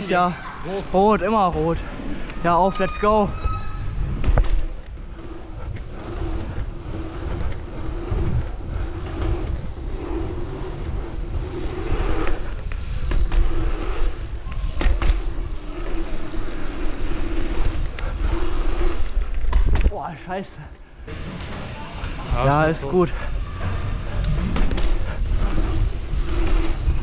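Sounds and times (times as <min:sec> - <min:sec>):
bike tyres rolling: 0:00.0 - 0:27.0.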